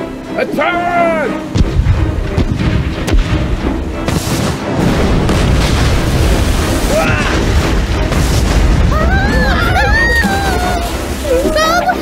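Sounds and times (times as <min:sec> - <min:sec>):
background music: 0:00.0 - 0:12.0
deep rumbling with thuds and booms: 0:01.5 - 0:11.2.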